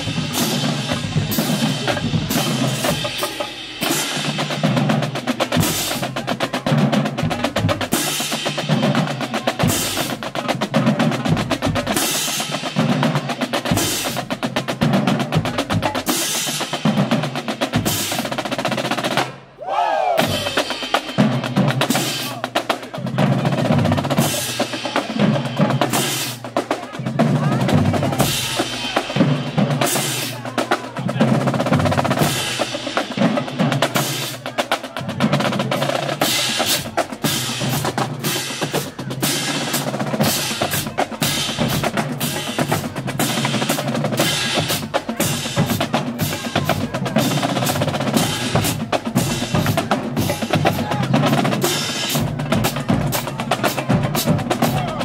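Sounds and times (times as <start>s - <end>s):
bass drums: 0.0s - 19.4s, 20.2s - 55.0s.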